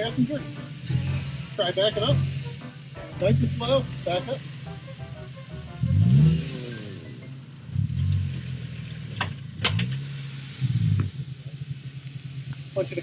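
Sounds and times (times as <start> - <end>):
engine revving in bursts: 0.4 - 12.6.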